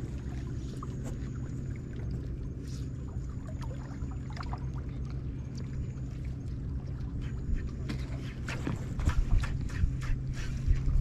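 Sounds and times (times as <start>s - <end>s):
steady low rumble: 0.0s - 11.0s
water lapping against boat hull: 0.0s - 11.0s.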